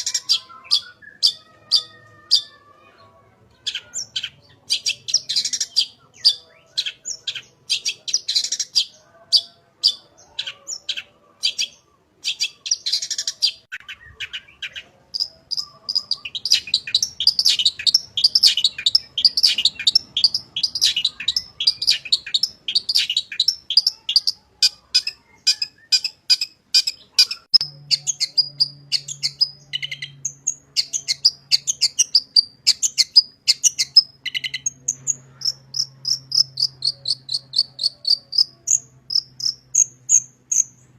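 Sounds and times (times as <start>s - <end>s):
shrike singing chattering song: 0.0s - 2.6s, 3.6s - 40.9s.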